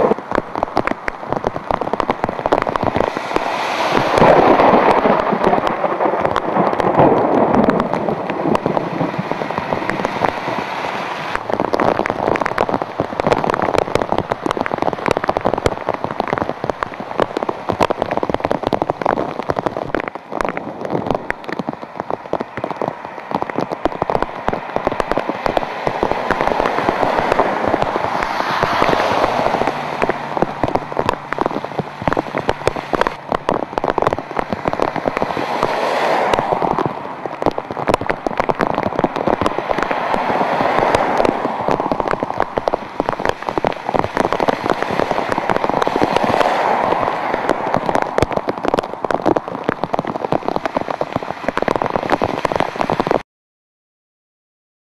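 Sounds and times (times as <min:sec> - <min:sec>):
car tyres swishing through water: 0:00.0 - 0:53.2
heavy rain pelting down: 0:00.0 - 0:53.2.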